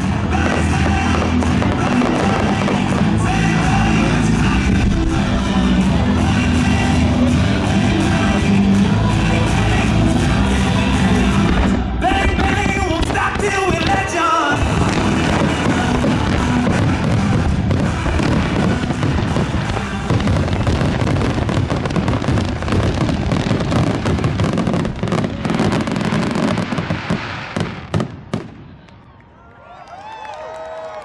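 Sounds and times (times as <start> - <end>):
show music: 0.0 - 27.7
fireworks booming and crackling: 0.0 - 29.0.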